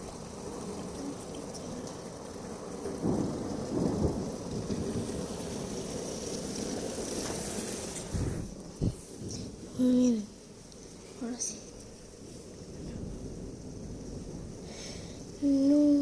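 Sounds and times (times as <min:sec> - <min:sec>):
heavy rain and wind: 0:00.0 - 0:16.0
thunder rumble: 0:00.0 - 0:16.0.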